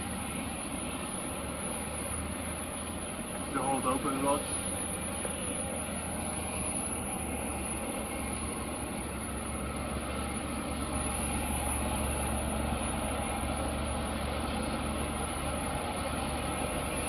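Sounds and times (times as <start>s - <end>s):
engine idling hum: 0.0s - 17.0s
high-pitched whine: 0.0s - 17.0s.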